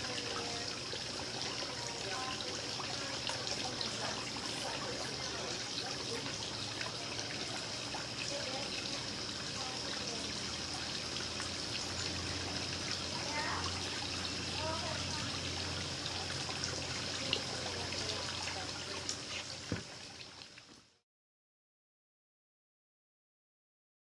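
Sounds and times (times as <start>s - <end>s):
trickling water: 0.0s - 21.0s.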